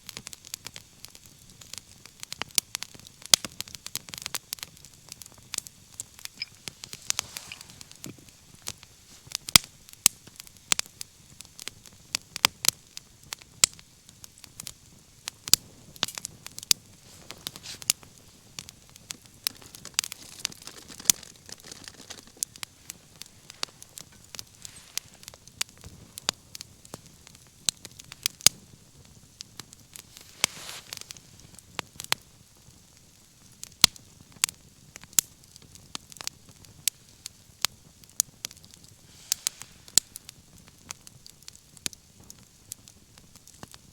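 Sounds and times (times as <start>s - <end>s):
hiss of burning: 0.0s - 43.9s
wood fire crackling: 0.0s - 43.9s.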